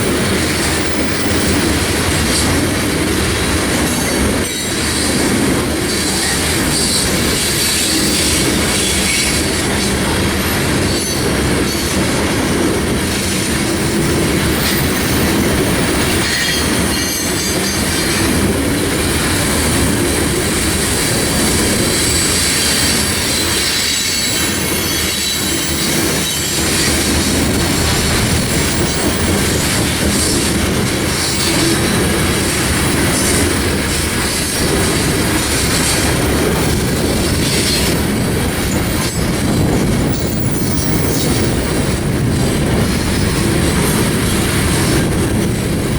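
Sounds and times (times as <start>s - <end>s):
train wheels clattering: 0.0s - 45.9s
wheels squealing on rails: 0.0s - 45.9s.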